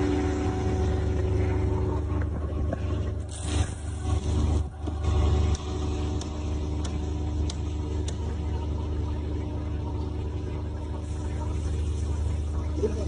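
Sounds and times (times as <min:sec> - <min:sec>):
engine deep rumble: 0:00.0 - 0:12.8.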